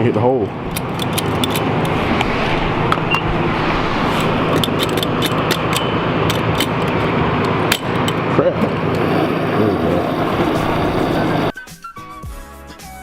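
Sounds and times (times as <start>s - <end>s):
road noise: 0.3s - 11.5s.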